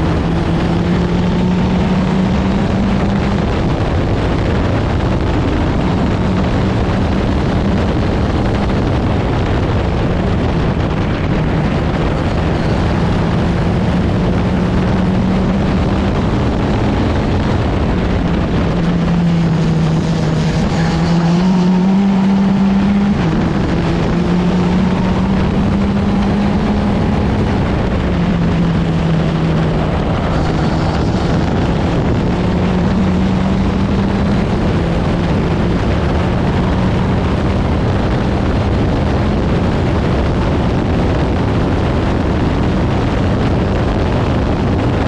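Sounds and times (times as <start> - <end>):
race car engine running hard: 0.0 - 45.0
wind rush on microphone: 0.0 - 45.0.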